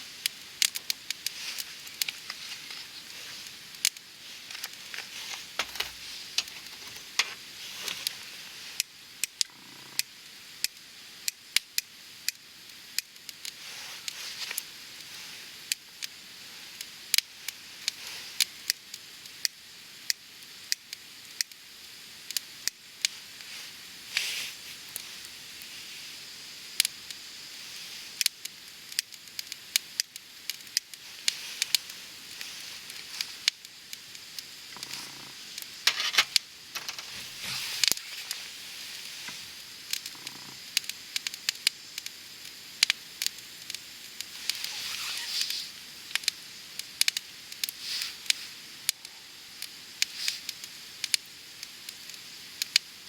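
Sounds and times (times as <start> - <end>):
campfire hissing: 0.0 - 53.0
fire crackles and pops: 0.0 - 53.0.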